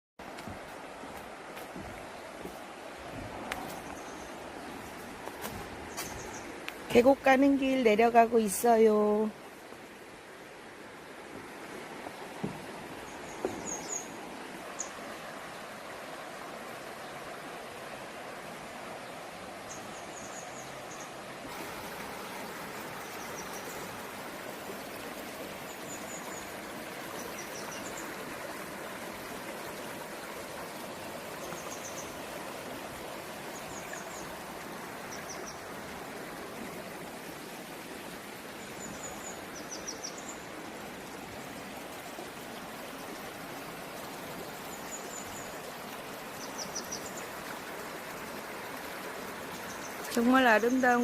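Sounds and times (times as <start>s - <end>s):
stream running over rocks: 0.2s - 51.0s.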